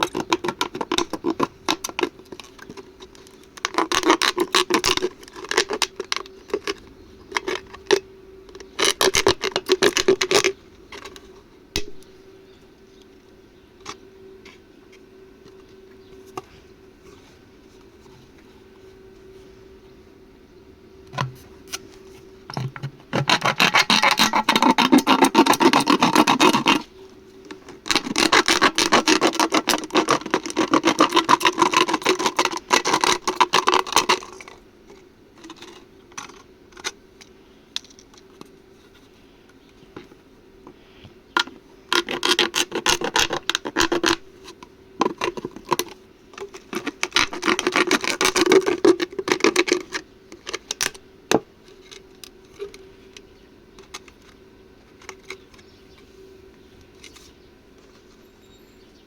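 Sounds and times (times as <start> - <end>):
steady electrical hum: 0.0 - 59.0.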